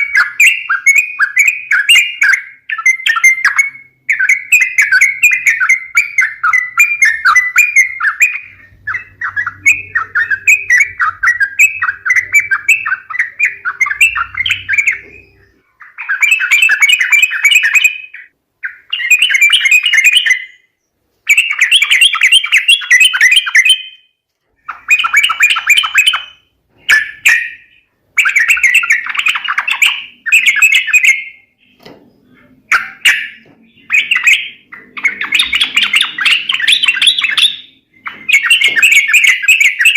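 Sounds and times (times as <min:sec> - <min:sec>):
bulbuls chattering: 0:00.0 - 0:17.6, 0:24.6 - 0:39.9.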